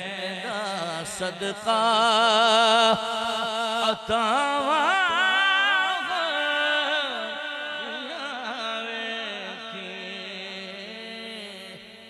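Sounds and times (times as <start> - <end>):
man singing through a microphone: 0.0 - 12.0.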